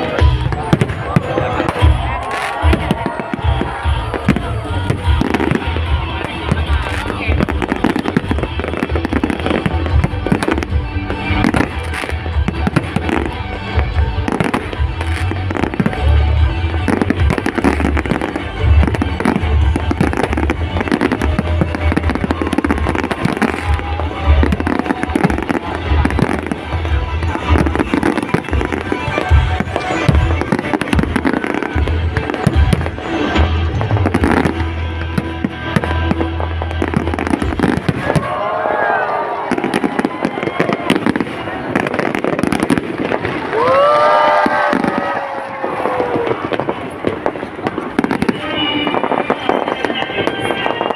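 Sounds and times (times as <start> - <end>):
fireworks bursting and crackling: 0.0 - 50.9.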